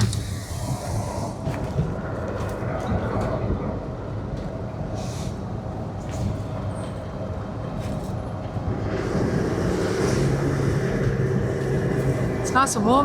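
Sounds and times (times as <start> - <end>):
vehicle engine and tyre rumble: 0.0 - 13.0.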